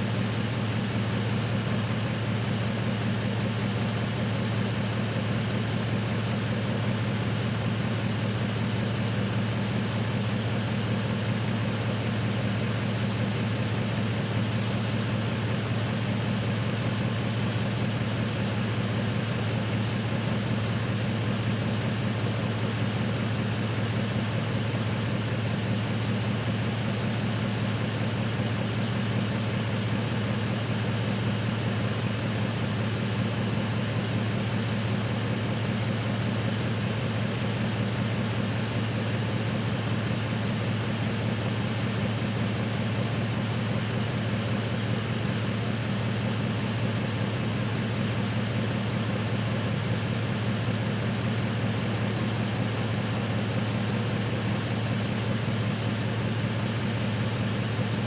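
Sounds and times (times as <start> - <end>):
truck engine idling: 0.1 - 58.0.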